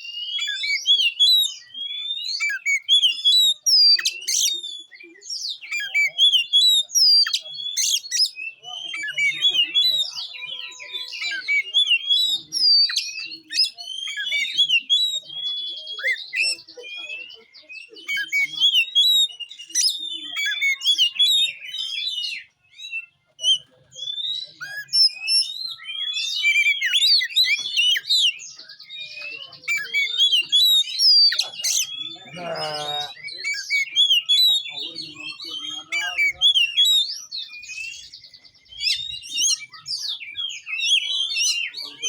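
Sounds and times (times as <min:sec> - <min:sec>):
bird singing whistles and chirps: 0:00.0 - 0:42.0.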